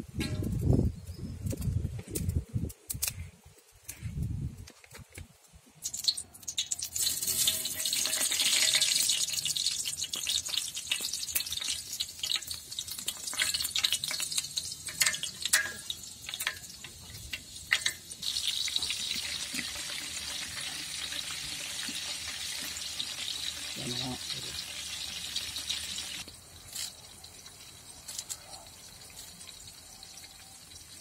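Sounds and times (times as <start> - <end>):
seeds sizzling in hot oil: 5.7 - 31.0
shallots sizzling in oil: 5.7 - 31.0.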